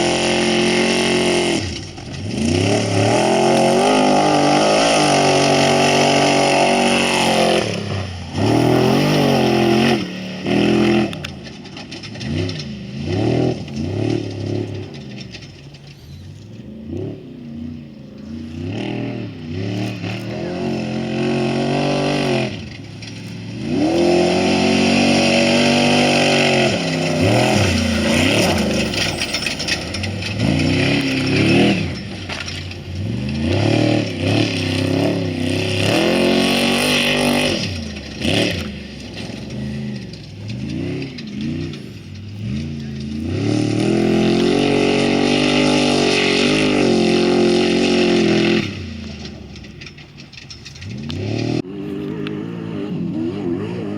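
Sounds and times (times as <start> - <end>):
race vehicle engines revving: 0.0 - 53.9.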